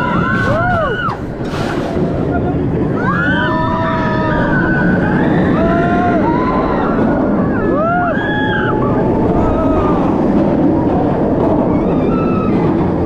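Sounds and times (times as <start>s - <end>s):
riders screaming and whooping: 0.0s - 13.0s
wind rushing over microphone: 0.0s - 13.0s.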